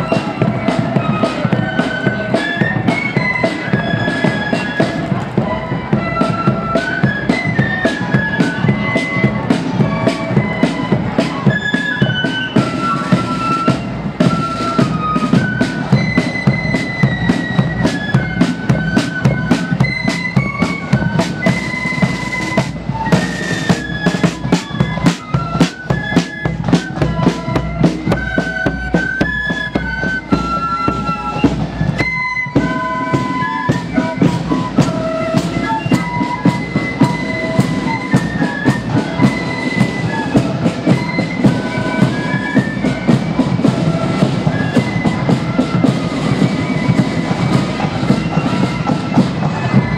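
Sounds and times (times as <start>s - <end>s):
bass drum beating march rhythm: 0.0s - 49.9s
flutes playing a melody: 0.0s - 49.9s
side drums: 0.0s - 49.9s.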